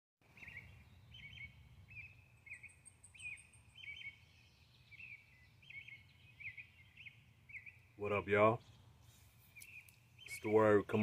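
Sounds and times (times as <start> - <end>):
bird chirping phrase: 0.2 - 11.0
high bird trill: 0.2 - 11.0.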